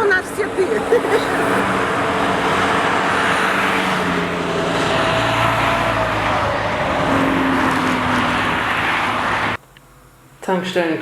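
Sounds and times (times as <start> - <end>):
vehicle engine hum: 0.0 - 9.6
road noise: 0.0 - 10.1.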